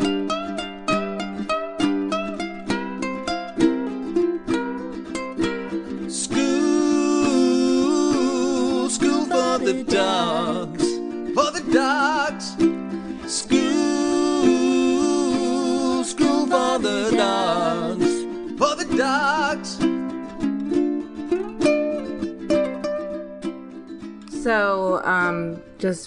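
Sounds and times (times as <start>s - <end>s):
held melody line: 0.0s - 24.8s
plucked strings tune: 0.0s - 25.8s.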